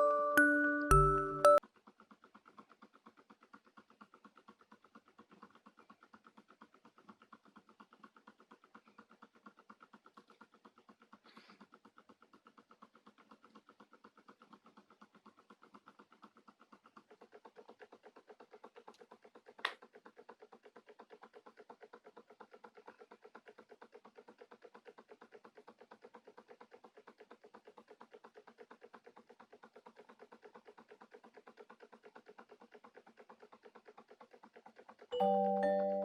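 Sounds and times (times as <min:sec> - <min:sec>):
small engine ticking: 0:00.0 - 0:36.0.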